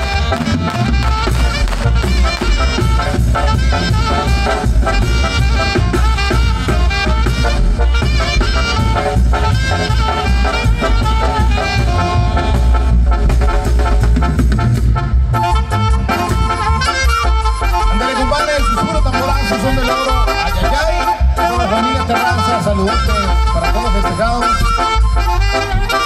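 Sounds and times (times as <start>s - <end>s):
bass drum beat: 0.0s - 26.0s
brass and saxophones playing melody: 0.0s - 26.0s.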